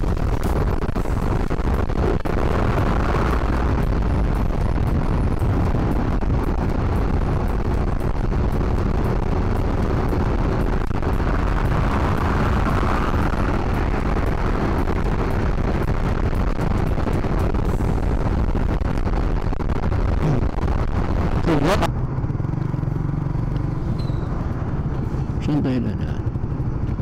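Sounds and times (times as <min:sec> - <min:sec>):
wind noise on microphone: 0:00.0 - 0:22.2.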